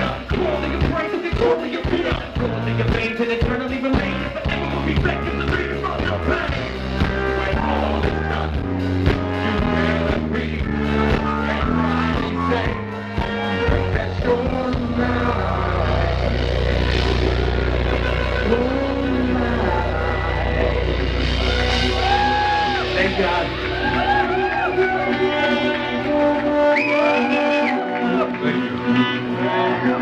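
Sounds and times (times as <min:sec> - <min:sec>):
live rock band playing: 0:00.0 - 0:30.0
person singing: 0:00.0 - 0:30.0.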